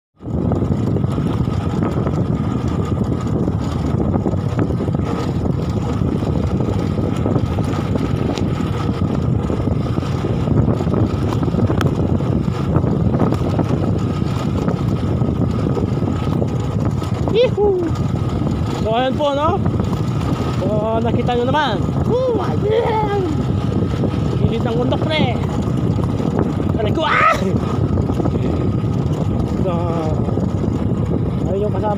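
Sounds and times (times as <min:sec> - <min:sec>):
motorcycle engine running: 0:00.2 - 0:31.9
wind noise on microphone: 0:00.2 - 0:31.9.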